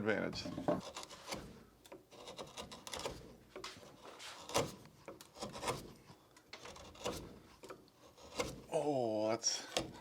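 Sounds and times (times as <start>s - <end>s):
carving tool scraping wood: 0.4s - 8.8s, 9.6s - 10.0s.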